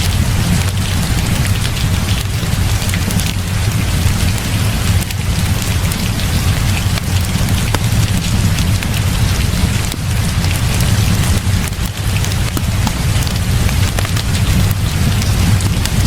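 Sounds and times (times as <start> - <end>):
heavy rain falling: 0.0 - 16.0
raindrops ticking: 0.0 - 16.0.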